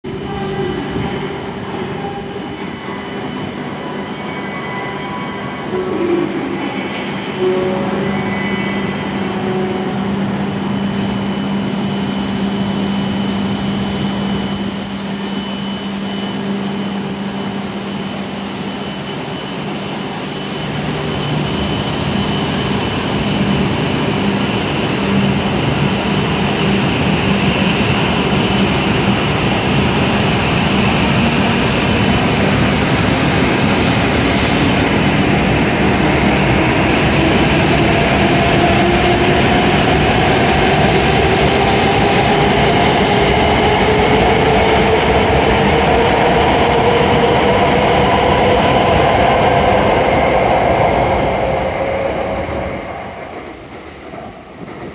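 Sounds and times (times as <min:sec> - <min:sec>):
train rumbling along track: 0:00.0 - 0:54.9.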